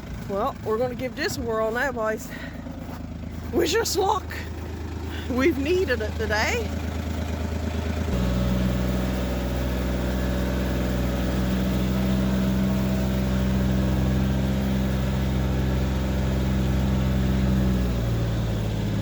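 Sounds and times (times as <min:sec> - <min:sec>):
utility vehicle engine revving: 0:00.0 - 0:19.0.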